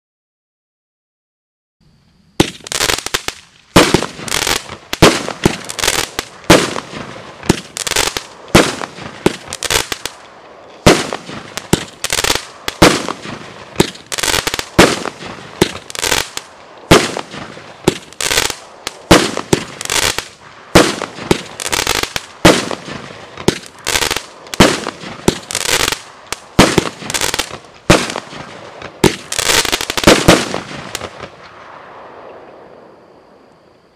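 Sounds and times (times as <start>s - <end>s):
firework bangs and crackles: 2.4s - 33.0s.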